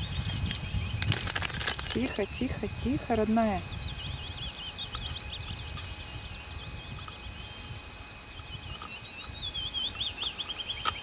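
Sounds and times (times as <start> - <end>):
low steady rumble: 0.0 - 11.0
songbird warbling: 2.0 - 11.0.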